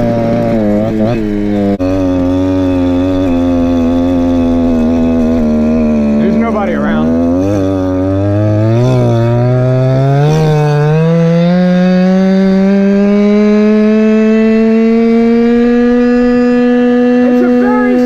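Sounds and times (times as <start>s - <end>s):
two-stroke scooter engine revving: 0.0s - 18.0s.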